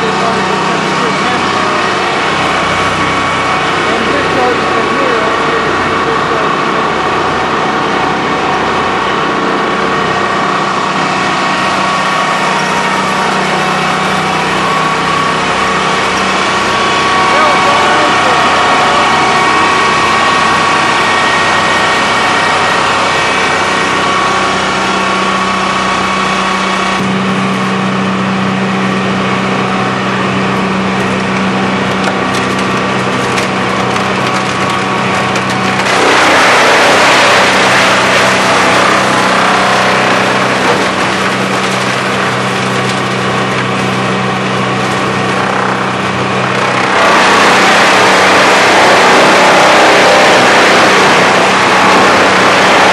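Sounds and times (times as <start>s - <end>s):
machine hum: 0.0s - 52.9s
wood crackling in a grinder: 0.0s - 52.9s.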